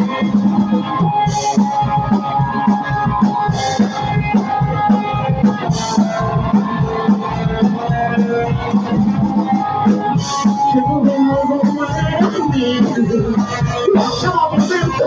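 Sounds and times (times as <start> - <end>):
drum kit beat: 0.0 - 15.0
sustained guitar notes: 0.0 - 15.0.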